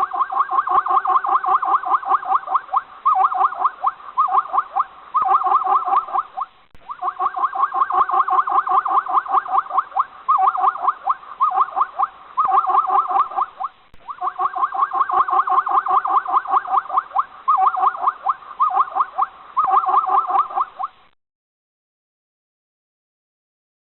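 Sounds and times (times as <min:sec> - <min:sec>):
animal squeaky call: 0:00.0 - 0:21.1.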